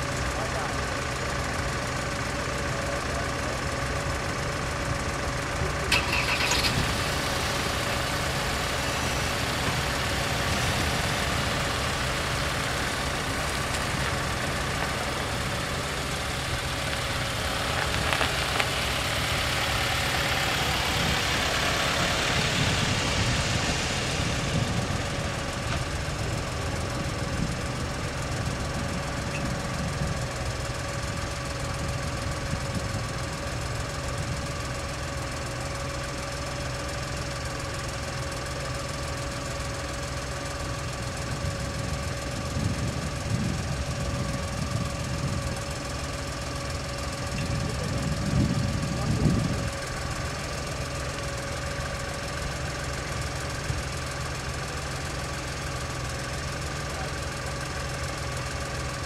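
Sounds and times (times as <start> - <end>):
road noise: 0.0 - 59.0
van engine idling: 0.0 - 59.0.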